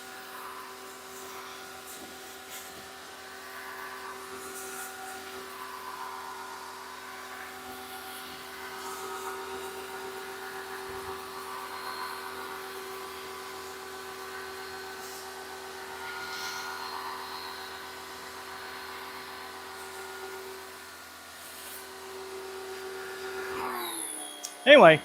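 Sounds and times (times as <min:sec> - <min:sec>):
pressure washer humming: 0:00.0 - 0:25.0.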